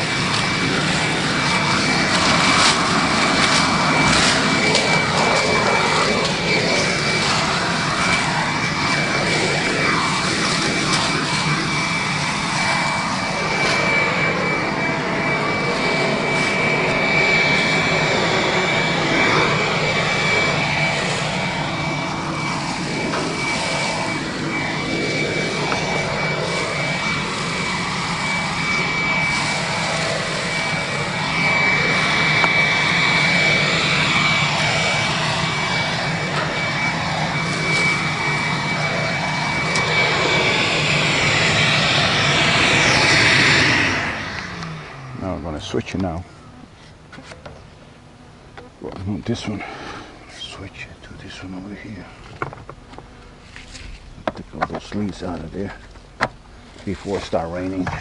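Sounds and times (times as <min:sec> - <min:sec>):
shop vacuum motor whine: 0:00.0 - 0:58.0.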